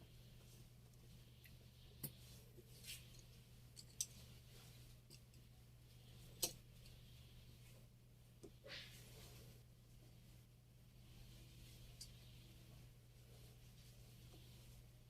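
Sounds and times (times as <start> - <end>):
soft brushing: 0.0 - 15.0
steady low hum: 0.0 - 15.0.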